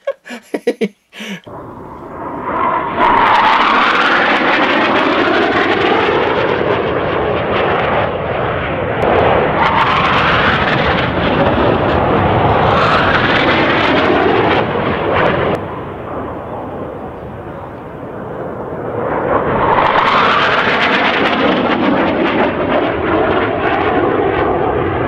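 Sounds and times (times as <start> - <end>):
jet flying past: 1.5 - 25.0.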